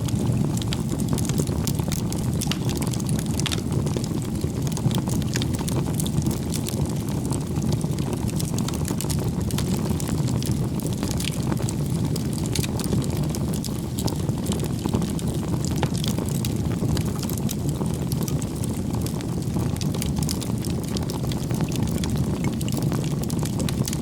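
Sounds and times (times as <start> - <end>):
bonfire flames rumbling: 0.0 - 24.0
firewood crackling and popping: 0.0 - 24.0.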